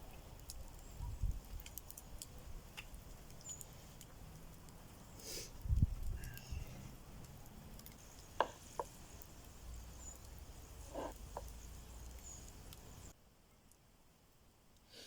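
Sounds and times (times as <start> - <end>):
campfire pops and crackles: 0.0 - 13.8
faint steady hiss: 0.0 - 15.0.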